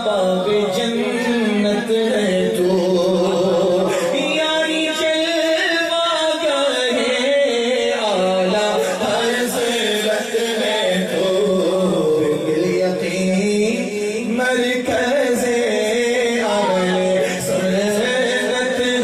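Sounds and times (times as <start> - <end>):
person chanting devotional melody: 0.0 - 19.0.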